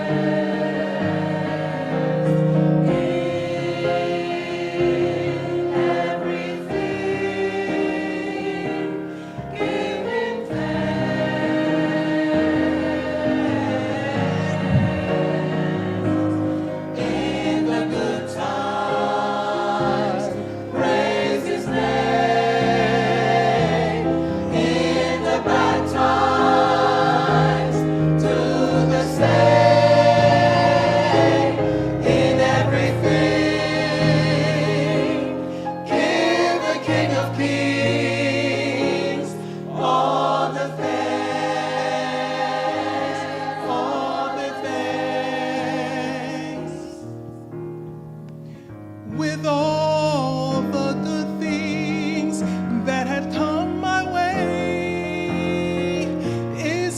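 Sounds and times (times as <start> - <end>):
gospel choir singing: 0.0 - 47.4, 49.0 - 56.9
instrumental accompaniment: 0.0 - 49.5.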